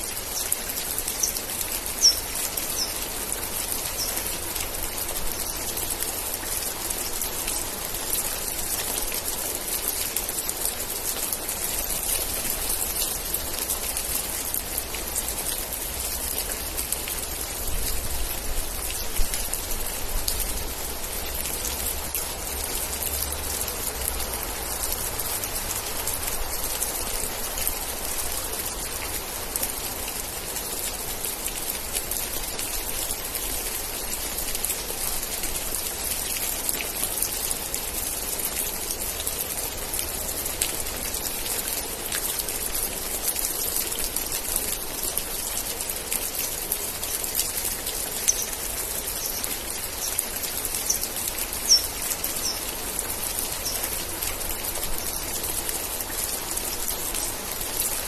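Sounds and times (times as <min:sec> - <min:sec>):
rain falling: 0:00.0 - 0:58.0
raindrops ticking on a surface: 0:00.0 - 0:58.0.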